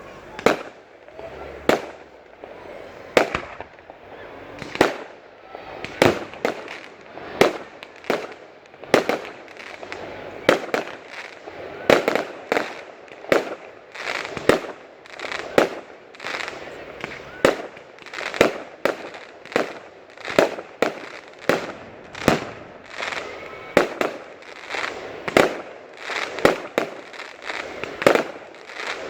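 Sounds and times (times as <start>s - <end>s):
fireworks bangs: 0.0s - 29.0s
fireworks crackling and fizzing: 0.0s - 29.0s.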